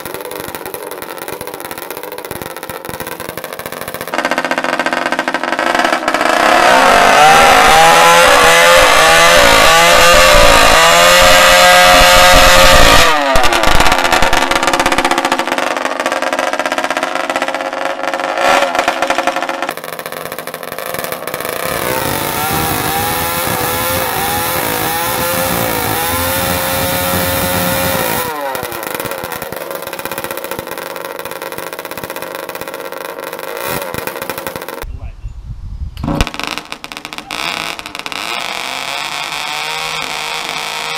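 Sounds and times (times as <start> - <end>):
two-stroke engine revving: 0.0 - 34.9, 36.0 - 40.9.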